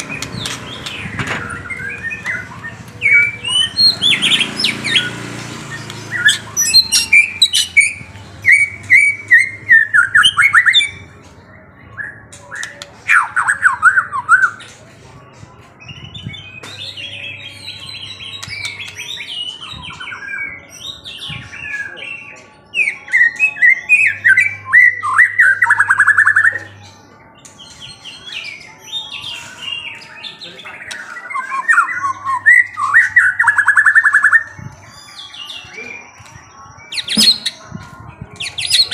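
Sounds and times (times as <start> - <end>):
songbird singing: 0.0 - 14.9, 15.6 - 38.9.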